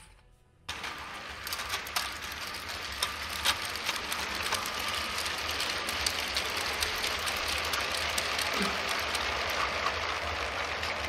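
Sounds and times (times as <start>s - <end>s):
toy train motor whirring: 0.7s - 11.0s
wheels clicking over rail joints: 0.7s - 11.0s.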